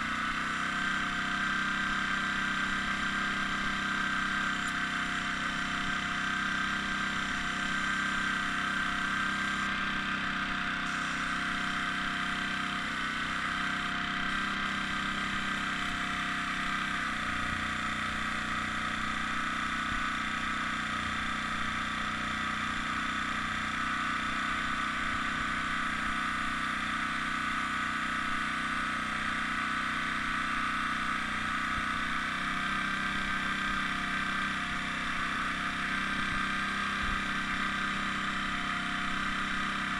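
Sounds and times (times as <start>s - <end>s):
air compressor motor hum: 0.0s - 39.9s.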